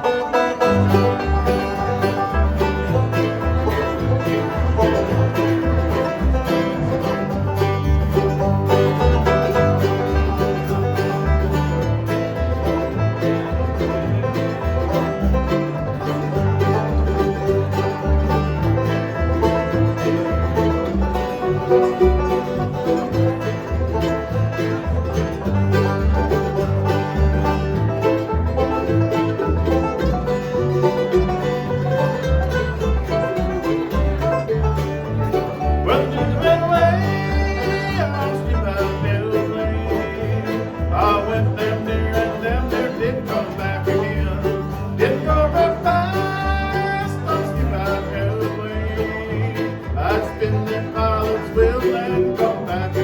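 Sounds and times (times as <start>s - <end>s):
banjo picking: 0.0s - 53.0s
bass line: 0.0s - 53.0s
guitar: 0.0s - 53.0s.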